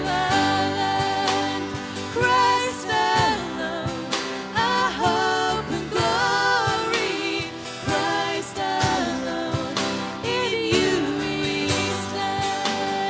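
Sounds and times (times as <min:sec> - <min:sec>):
acoustic guitar: 0:00.0 - 0:13.0
person singing: 0:00.0 - 0:13.0.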